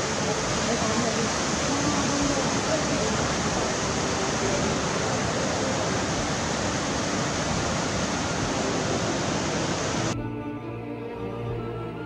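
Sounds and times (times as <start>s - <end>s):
stream rushing over boulders: 0.0s - 10.2s.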